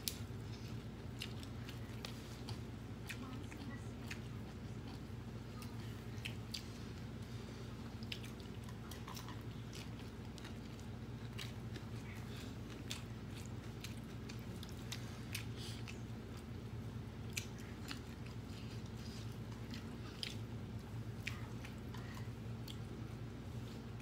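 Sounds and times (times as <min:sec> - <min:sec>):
people chewing food: 0:00.0 - 0:24.0
steady low hum: 0:00.0 - 0:24.0.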